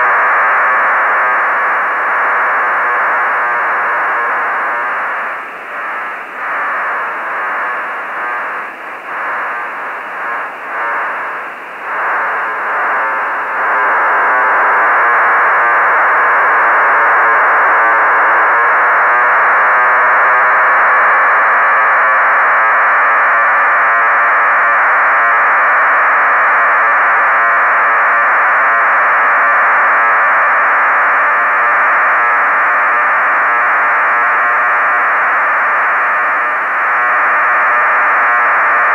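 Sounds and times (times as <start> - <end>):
hissy radio data signal: 0.0 - 38.9.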